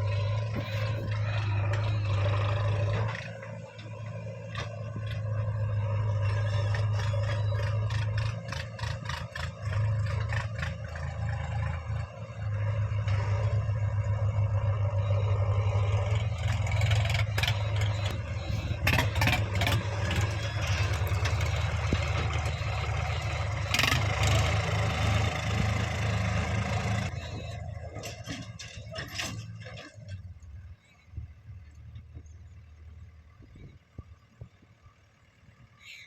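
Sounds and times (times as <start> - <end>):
heavy diesel engine running: 0.0 - 34.2.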